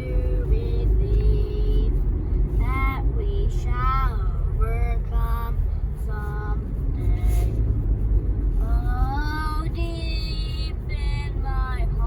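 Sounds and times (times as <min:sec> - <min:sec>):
car rumbling on road: 0:00.0 - 0:12.0.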